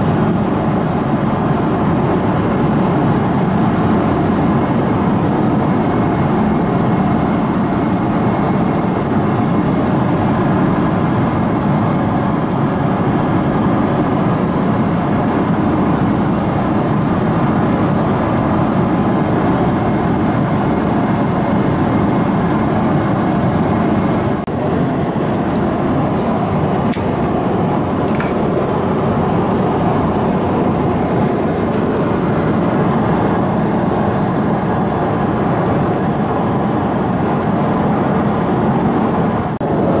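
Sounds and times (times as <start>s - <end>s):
airplane cabin drone: 0.0s - 40.0s.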